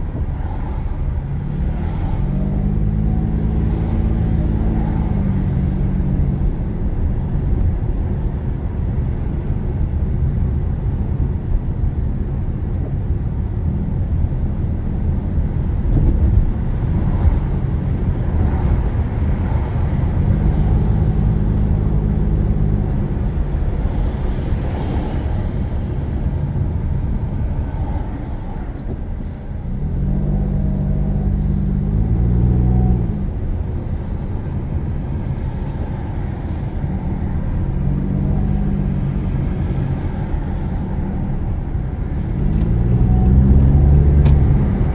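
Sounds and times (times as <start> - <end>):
car engine: 0.0 - 44.9
tyre road noise: 0.0 - 44.9.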